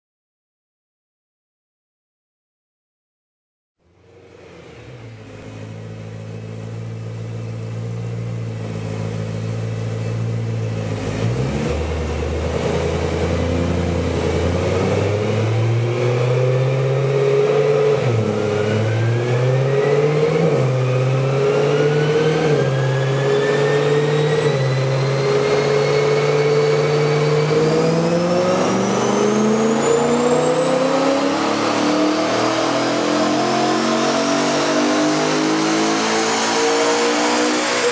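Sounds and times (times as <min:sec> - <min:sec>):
car engine revving on dyno: 0:03.9 - 0:37.9.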